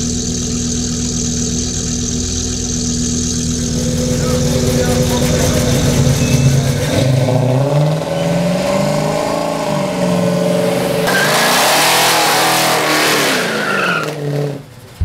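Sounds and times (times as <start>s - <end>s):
tyres squealing on wet asphalt: 0.0s - 14.9s
car engine revving: 0.0s - 15.0s.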